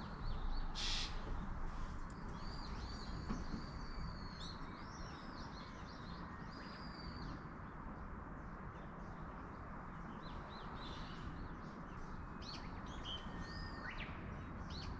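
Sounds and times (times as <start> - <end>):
songbirds chirping and whistling: 0.0 - 7.4, 10.1 - 14.9.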